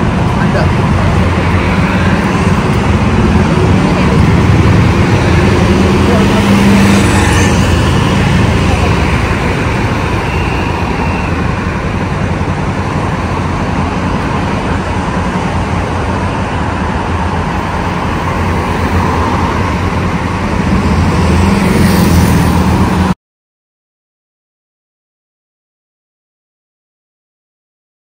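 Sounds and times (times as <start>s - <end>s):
road traffic rumble: 0.0s - 23.2s.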